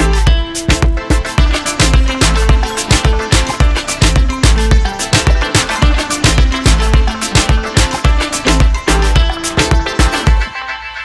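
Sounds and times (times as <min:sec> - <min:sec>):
fast beat music with heavy bass: 0:00.0 - 0:11.0.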